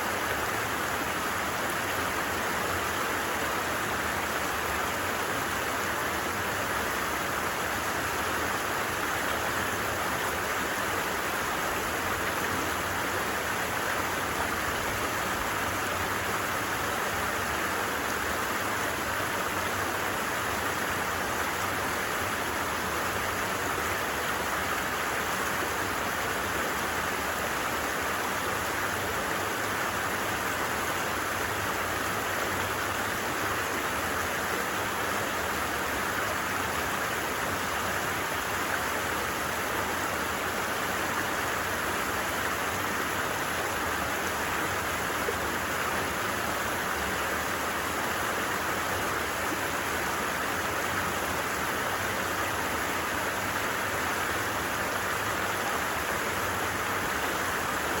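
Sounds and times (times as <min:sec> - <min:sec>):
stream babbling: 0:00.0 - 0:58.0.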